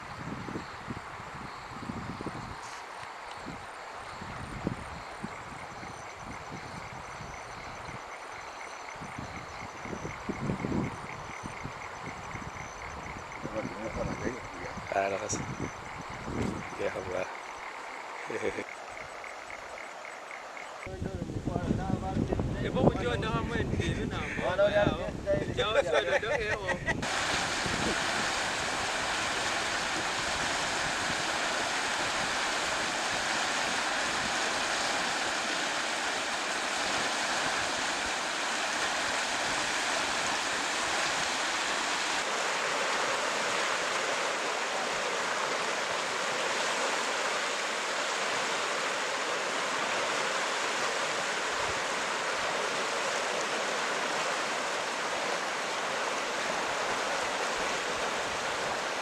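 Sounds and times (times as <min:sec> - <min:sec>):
rushing flowing water: 0:00.0 - 0:59.0.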